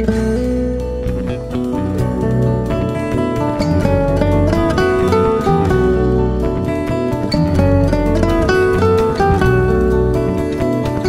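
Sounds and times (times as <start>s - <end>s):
bass line: 0.0s - 11.0s
plucked acoustic guitar: 0.0s - 11.0s.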